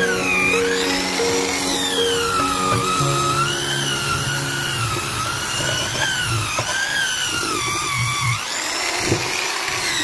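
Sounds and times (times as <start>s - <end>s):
angle grinder wire brush on metal: 0.0s - 10.0s.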